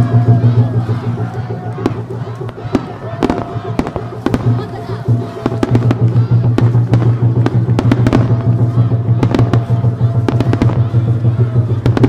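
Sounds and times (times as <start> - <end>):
fireworks bursting and crackling: 0.0 - 12.0
music with low bass: 0.0 - 12.0.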